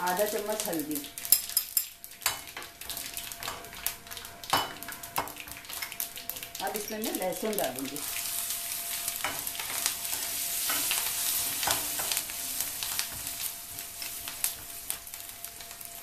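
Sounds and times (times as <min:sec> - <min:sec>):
garlic sizzling in hot oil: 0:00.0 - 0:16.0.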